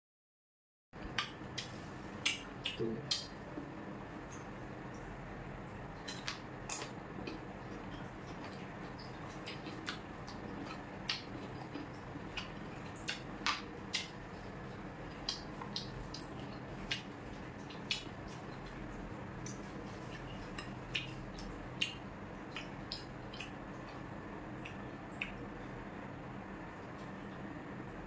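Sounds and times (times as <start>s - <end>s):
steady low hum: 1.0s - 28.0s.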